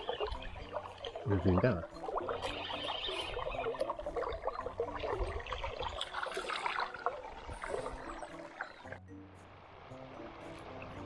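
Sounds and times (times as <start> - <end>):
fish thrashing and splashing: 0.0 - 8.9
river water washing: 0.0 - 11.0.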